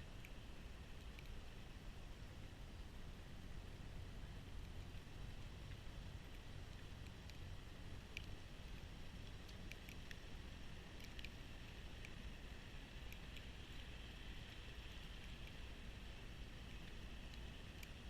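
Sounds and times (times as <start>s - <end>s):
faint ticks: 0.0s - 18.0s.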